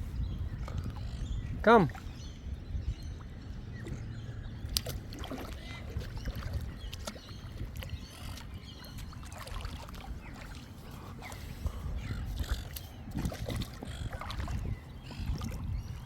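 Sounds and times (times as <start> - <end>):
steady low rumble: 0.0 - 16.0
water splashing and lapping: 0.0 - 16.0.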